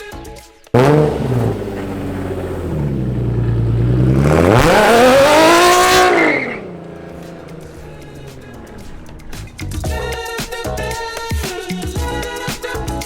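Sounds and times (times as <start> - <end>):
car engine revving: 0.8 - 13.0.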